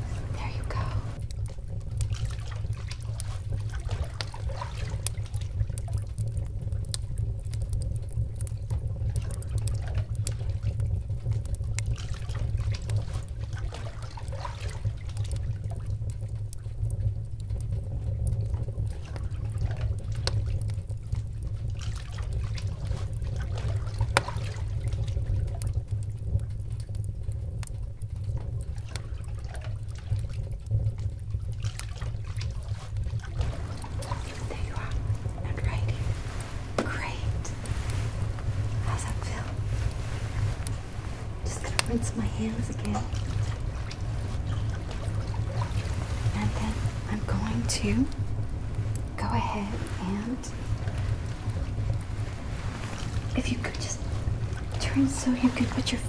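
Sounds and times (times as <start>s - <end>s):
steady low rumble: 0.0s - 56.0s
water trickling and splashing: 0.0s - 56.0s.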